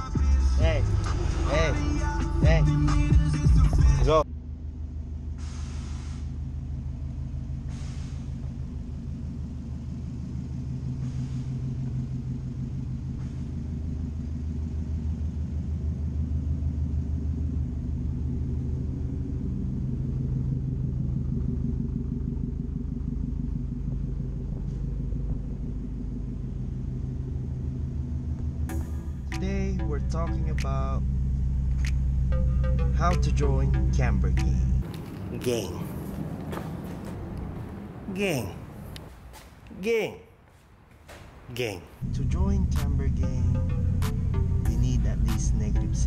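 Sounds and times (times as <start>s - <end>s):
car engine idling: 0.0s - 39.7s, 40.4s - 46.0s.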